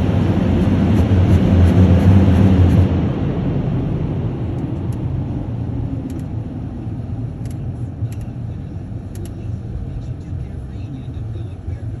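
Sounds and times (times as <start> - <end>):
car wash low rumble: 0.0 - 12.0.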